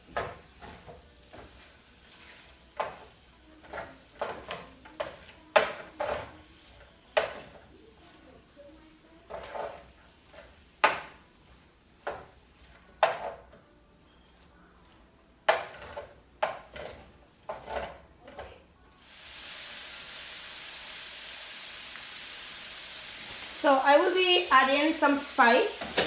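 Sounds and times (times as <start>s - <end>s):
food sizzling in a pan: 0.0s - 16.7s, 18.9s - 26.0s.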